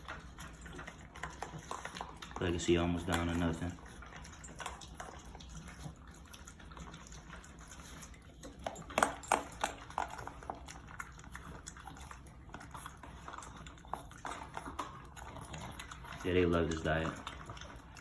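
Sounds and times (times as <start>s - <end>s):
dogs chewing and licking: 0.0s - 18.0s.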